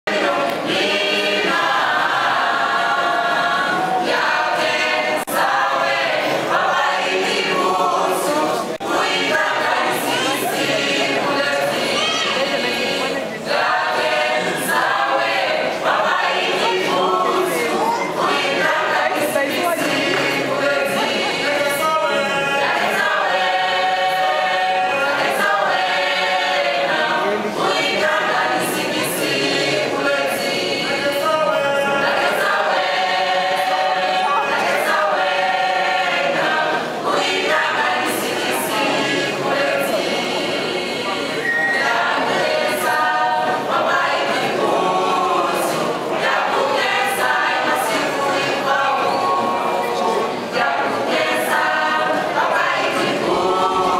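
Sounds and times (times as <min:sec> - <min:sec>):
mixed choir singing: 0:00.0 - 0:53.9.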